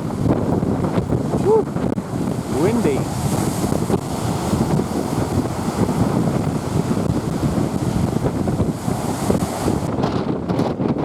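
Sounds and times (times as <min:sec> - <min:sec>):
lake waves breaking: 0:00.0 - 0:10.9
wind buffeting microphone: 0:00.0 - 0:11.0.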